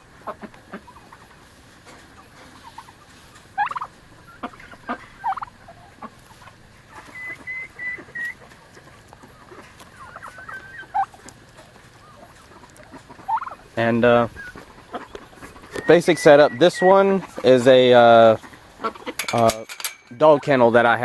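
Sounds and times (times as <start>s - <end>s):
turkeys calling: 0.0s - 21.0s.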